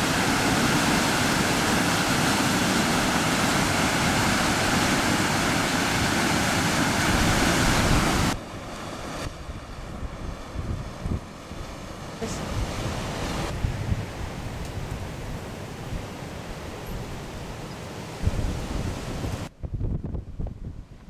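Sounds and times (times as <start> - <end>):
ocean surf breaking: 0.0 - 19.5
wind buffeting microphone: 1.4 - 8.4, 9.0 - 17.5, 18.1 - 21.0.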